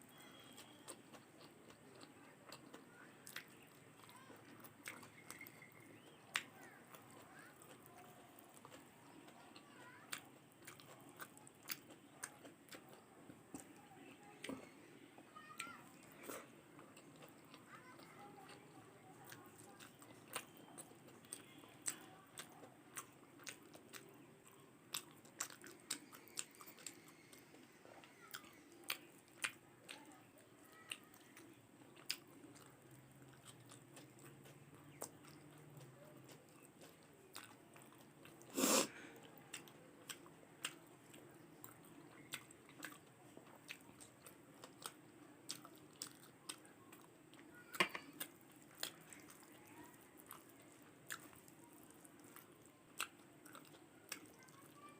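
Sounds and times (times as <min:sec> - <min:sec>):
chewing with wet mouth clicks: 0:00.2 - 0:14.7, 0:15.6 - 0:38.6, 0:39.2 - 0:54.9.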